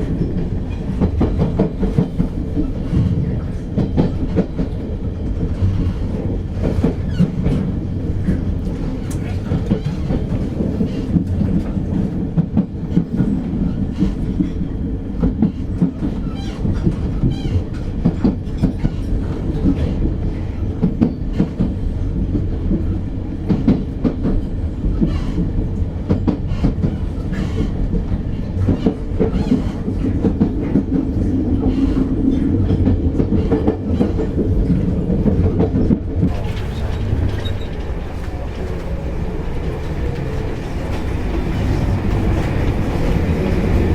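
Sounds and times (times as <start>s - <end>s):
train rumbling: 0.0s - 43.9s
wheels clicking and rattling on track: 0.0s - 43.9s.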